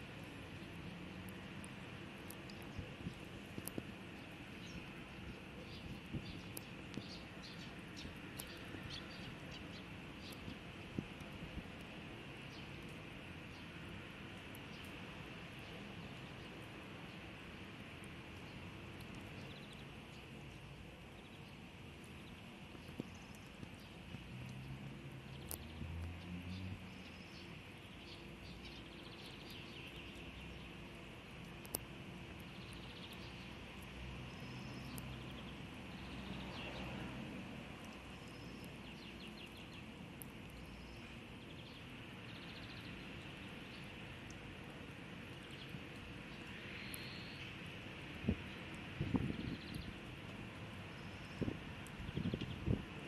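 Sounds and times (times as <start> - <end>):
small birds chirping: 0.1 - 53.0.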